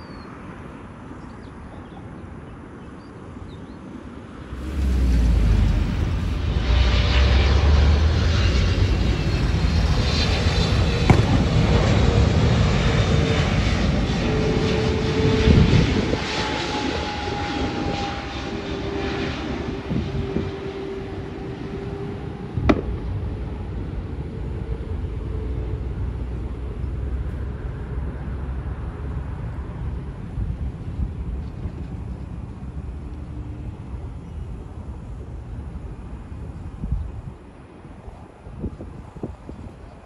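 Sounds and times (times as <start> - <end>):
jet airliner flying past: 3.8 - 40.0.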